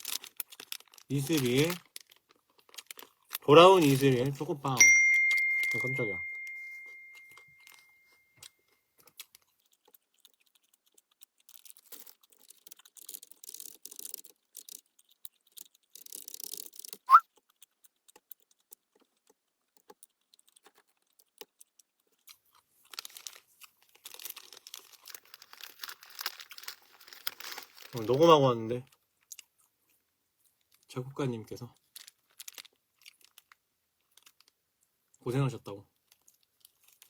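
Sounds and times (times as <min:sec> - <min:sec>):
plastic wrapper crinkling and tearing: 0:00.0 - 0:04.8, 0:08.4 - 0:29.5, 0:30.5 - 0:34.6, 0:36.0 - 0:37.0.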